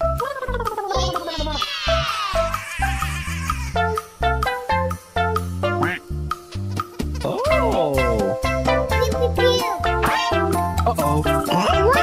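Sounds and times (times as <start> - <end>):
bouncy music with plucked notes: 0.0 - 12.0.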